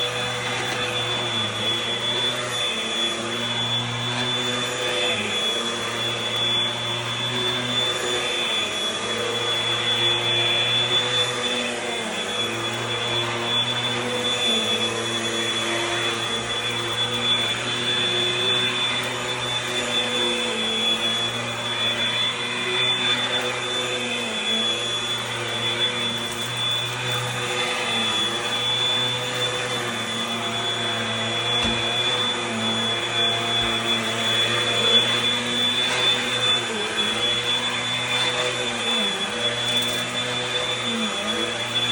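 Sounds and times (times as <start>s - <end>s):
vacuum cleaner motor whine: 0.0s - 41.9s.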